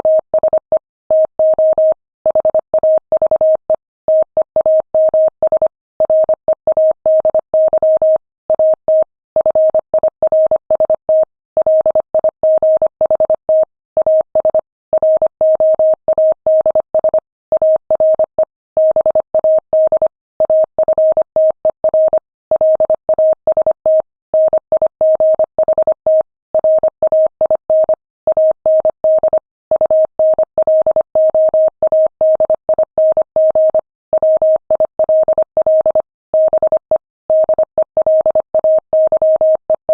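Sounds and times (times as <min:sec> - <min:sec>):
morse code beeps: 0:00.1 - 0:11.0, 0:14.0 - 0:23.7, 0:24.4 - 0:39.9.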